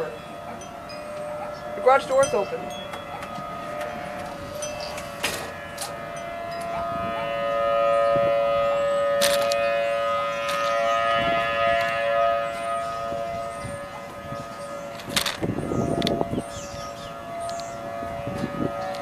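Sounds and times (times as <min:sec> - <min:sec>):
warning siren steady tone: 0:00.0 - 0:19.0.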